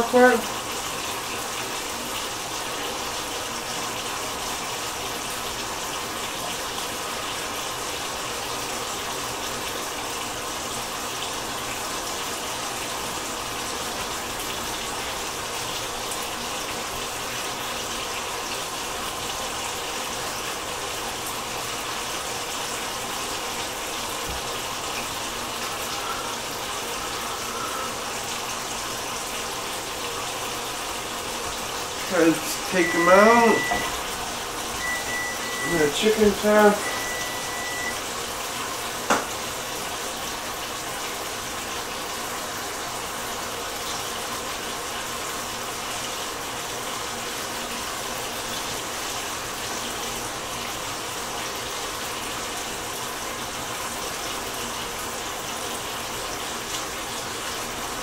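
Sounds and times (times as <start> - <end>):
chicken sizzling in sauce: 0.0 - 58.0.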